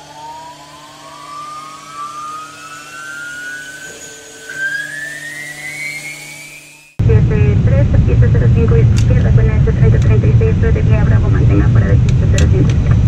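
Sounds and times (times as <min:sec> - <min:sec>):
jet engine whine rising: 0:00.0 - 0:13.0
steady low hum: 0:00.0 - 0:13.0.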